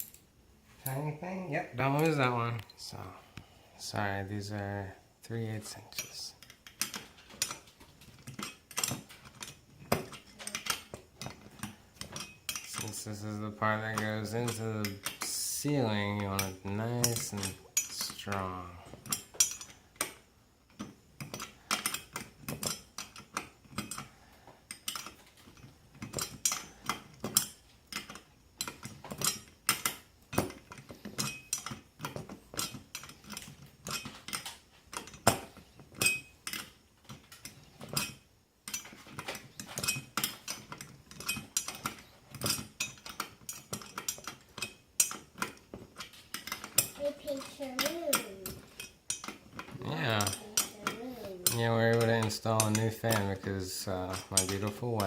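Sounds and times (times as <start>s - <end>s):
metal tools clinking: 0.0s - 1.0s, 5.9s - 55.0s.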